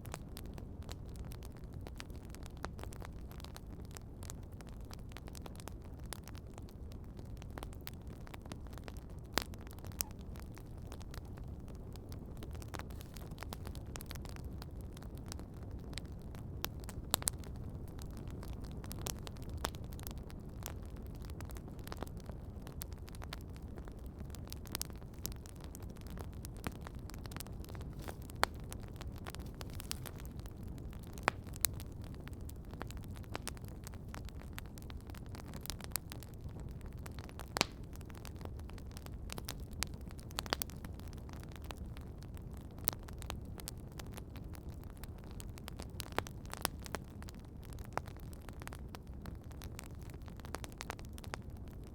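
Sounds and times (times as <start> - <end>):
campfire flames rushing: 0.0 - 51.8
wood crackling and popping: 0.0 - 51.9.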